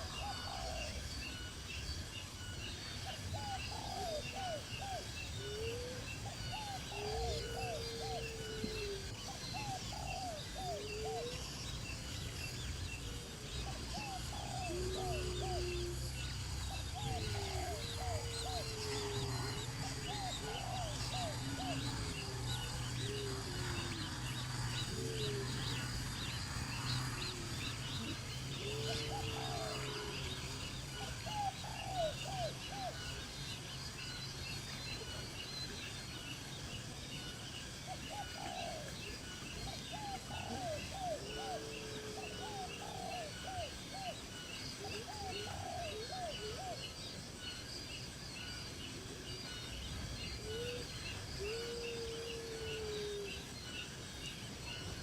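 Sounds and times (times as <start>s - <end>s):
birds calling: 0.0s - 47.6s
steady low hum: 0.0s - 55.0s.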